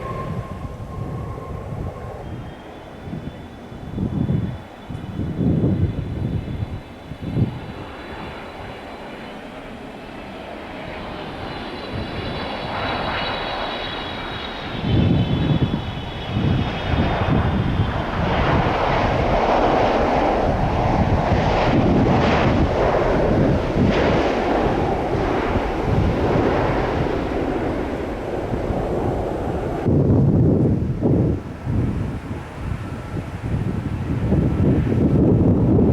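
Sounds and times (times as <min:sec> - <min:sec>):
jet airliner engines: 0:00.0 - 0:35.9
wind buffeting microphone: 0:00.0 - 0:35.9.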